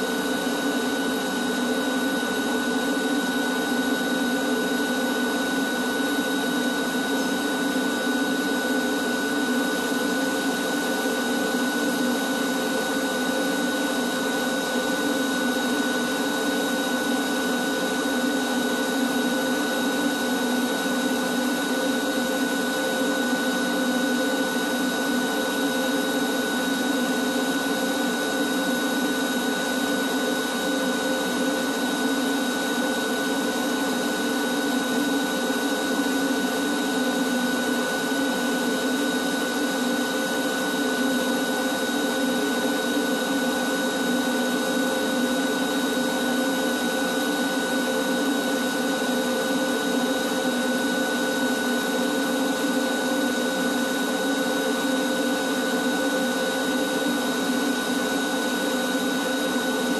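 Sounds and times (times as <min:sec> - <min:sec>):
shop vacuum running: 0:00.0 - 0:59.9.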